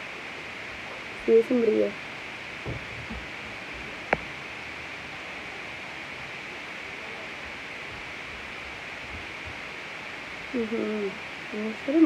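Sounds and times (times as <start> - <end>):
recording hiss: 0.0 - 12.0.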